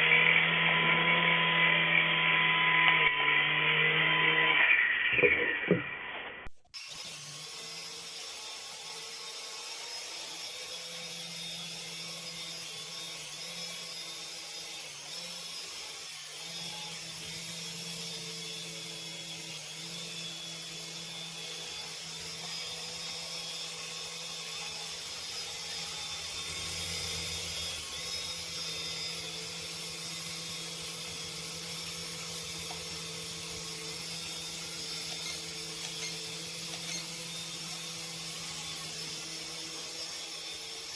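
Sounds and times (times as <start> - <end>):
toy helicopter motors whirring: 6.8 - 40.9.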